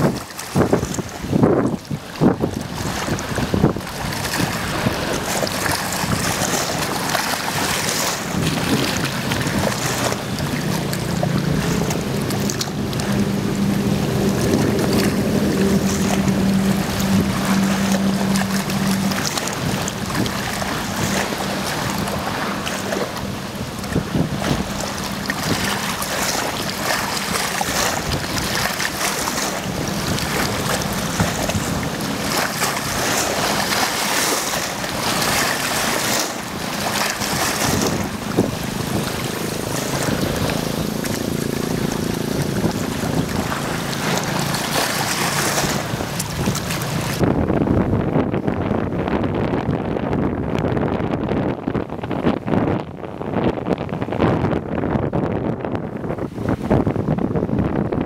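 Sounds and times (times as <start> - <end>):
waves splashing against shore: 0.0 - 58.0
wind gusting on microphone: 0.0 - 58.0.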